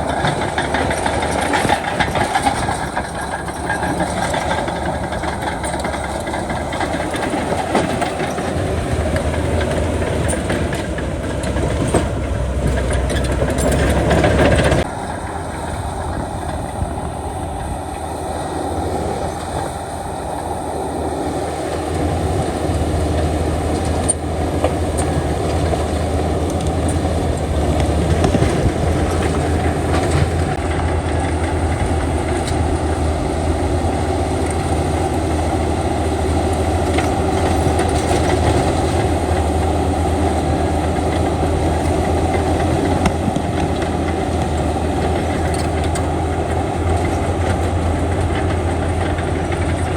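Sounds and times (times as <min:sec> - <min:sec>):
heavy machinery engine running: 0:00.0 - 0:49.9.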